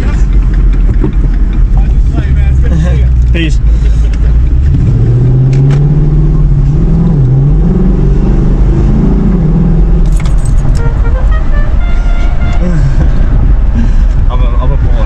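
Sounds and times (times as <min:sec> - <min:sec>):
loud car engine revving: 0:00.0 - 0:15.0.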